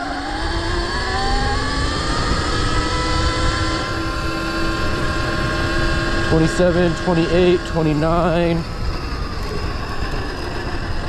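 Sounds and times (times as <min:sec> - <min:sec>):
electric motor whining: 0:00.0 - 0:11.0
wind rumble on microphone: 0:00.0 - 0:11.0.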